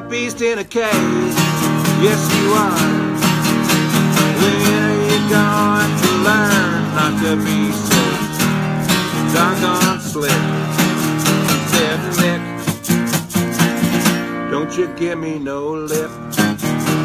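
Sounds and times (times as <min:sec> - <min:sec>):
man singing: 0:00.0 - 0:12.9, 0:14.4 - 0:16.4
acoustic guitar strumming: 0:00.0 - 0:17.0.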